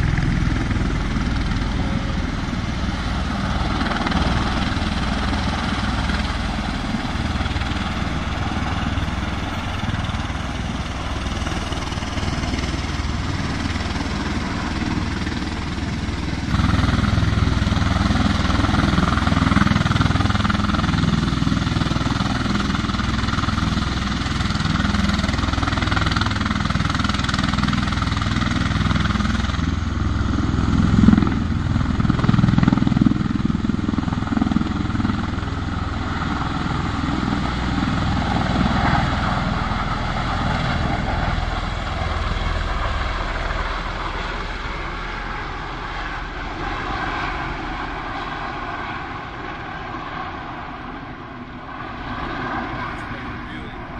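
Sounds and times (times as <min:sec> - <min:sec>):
tiltrotor aircraft rotor drone: 0:00.0 - 0:53.9.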